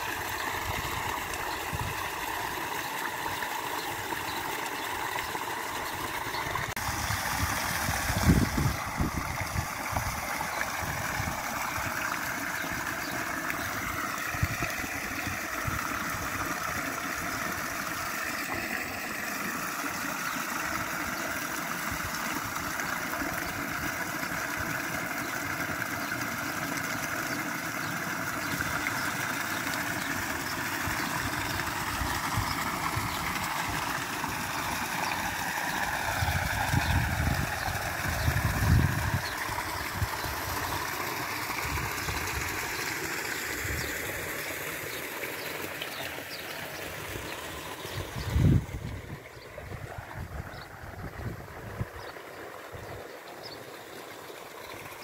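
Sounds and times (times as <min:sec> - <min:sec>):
water splashing into pool: 0:00.0 - 0:55.0.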